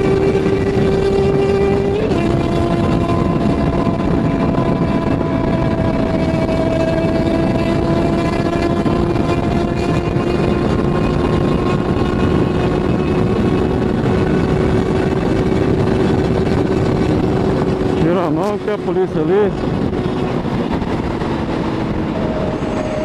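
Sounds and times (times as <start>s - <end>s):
motorcycle engine cruising: 0.0s - 23.0s
wind rush on microphone: 0.0s - 23.0s.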